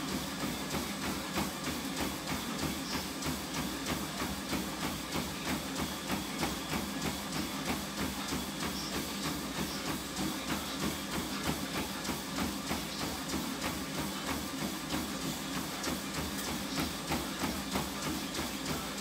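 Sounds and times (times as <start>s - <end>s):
footfalls on treadmill: 0.0s - 19.0s
treadmill motor hum: 0.0s - 19.0s.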